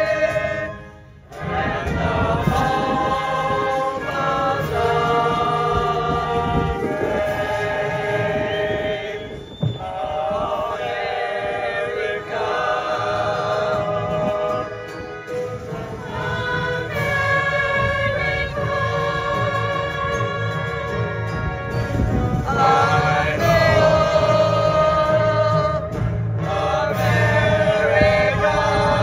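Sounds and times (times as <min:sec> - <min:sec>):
choir singing in harmony: 0:00.0 - 0:29.0.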